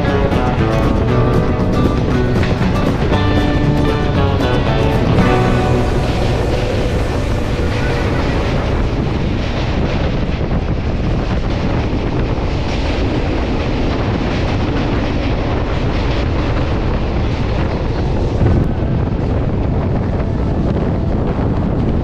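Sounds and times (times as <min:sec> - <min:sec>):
train running noise: 0:00.0 - 0:22.0
wind buffeting microphone: 0:00.0 - 0:22.0.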